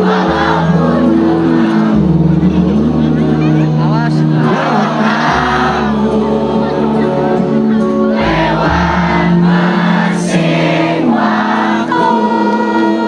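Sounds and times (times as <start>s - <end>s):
crowd singing along: 0.0s - 13.0s
live pop music through speakers: 0.0s - 13.0s.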